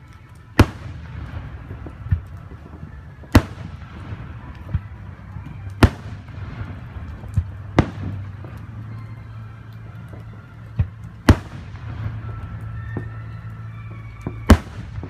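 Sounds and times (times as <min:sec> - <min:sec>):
firework shells booming: 0:00.6 - 0:09.2, 0:09.9 - 0:15.0.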